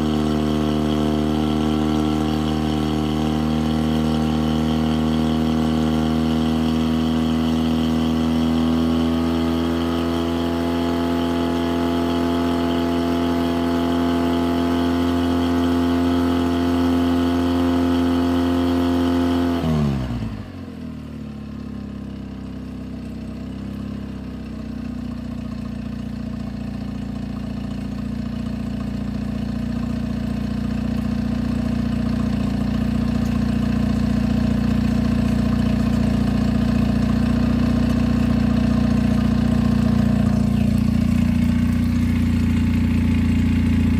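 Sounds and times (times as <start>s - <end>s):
outboard motor idling: 0.0s - 43.9s.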